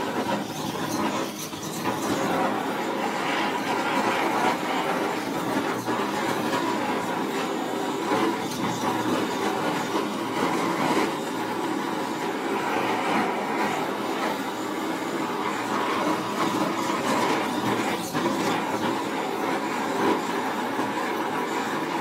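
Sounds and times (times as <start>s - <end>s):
gas torch flame hissing: 0.0s - 22.0s.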